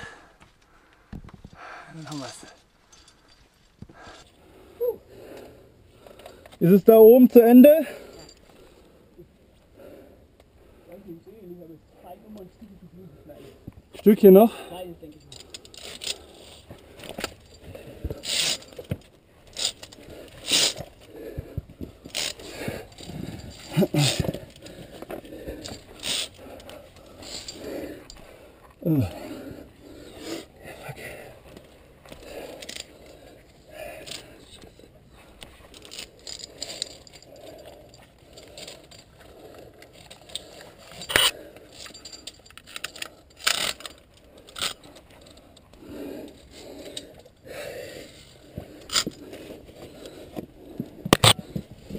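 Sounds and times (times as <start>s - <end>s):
carabiners clinking on steel cable: 1.5s - 8.8s, 13.9s - 51.9s.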